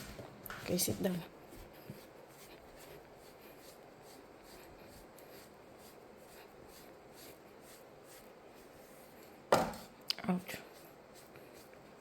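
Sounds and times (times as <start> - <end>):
brush strokes through cat fur: 0.0 - 12.0.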